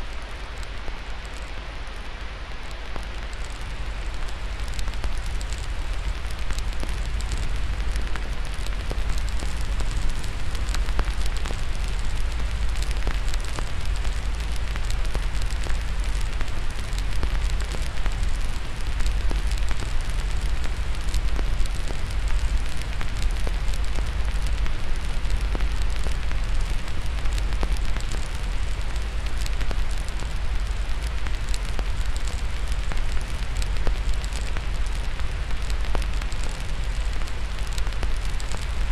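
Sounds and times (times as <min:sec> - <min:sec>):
fire crackling and popping: 0:00.0 - 0:38.9
steady hiss: 0:00.0 - 0:38.9.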